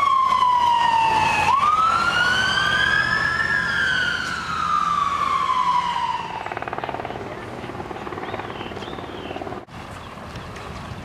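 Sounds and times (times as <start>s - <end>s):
emergency vehicle siren wailing: 0.0s - 9.4s.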